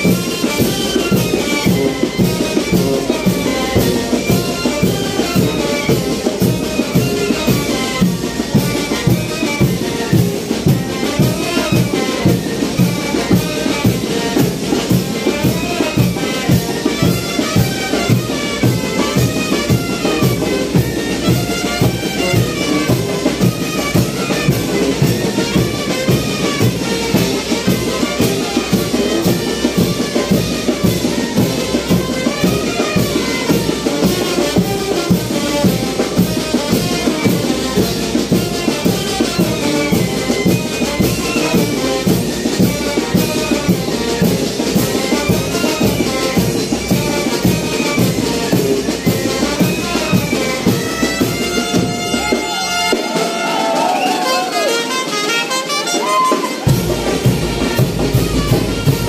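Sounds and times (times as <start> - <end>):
brass band playing: 0.0 - 59.0
driving drum beat: 0.0 - 59.0.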